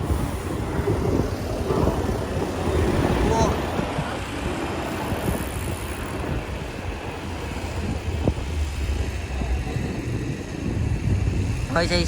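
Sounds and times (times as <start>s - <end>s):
bus engine rumbling: 0.0s - 12.0s
wind on microphone: 0.0s - 12.0s.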